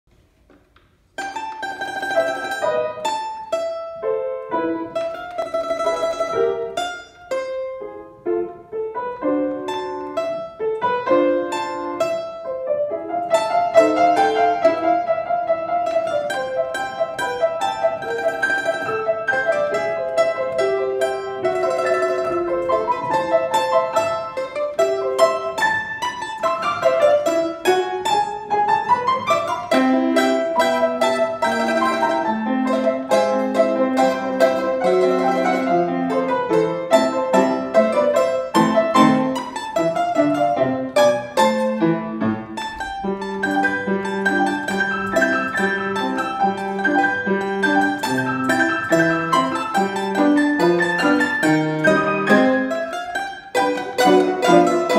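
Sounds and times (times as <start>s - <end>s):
piano accompaniment: 0.0s - 54.9s
plucked domra notes: 1.2s - 7.8s, 9.4s - 10.6s, 13.2s - 54.9s.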